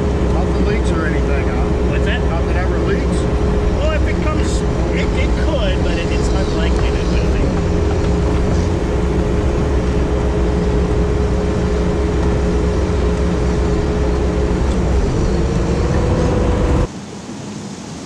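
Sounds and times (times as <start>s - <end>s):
diesel engine under load: 0.0s - 16.9s.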